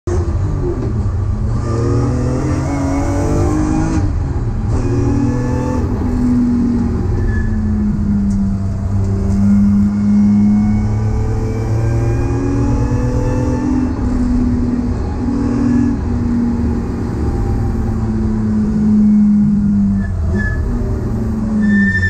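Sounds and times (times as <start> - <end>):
car engine accelerating: 0.1 - 22.0.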